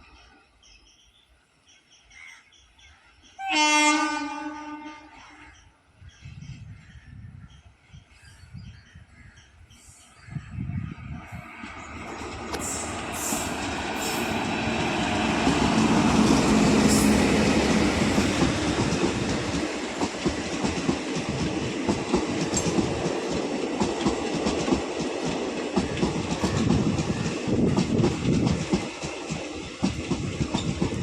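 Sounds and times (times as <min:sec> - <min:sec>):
train rumbling on track: 0:02.8 - 0:31.0.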